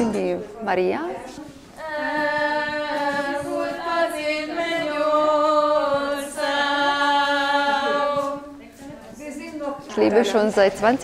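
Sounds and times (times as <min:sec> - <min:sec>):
voices singing unaccompanied: 0:01.2 - 0:10.6.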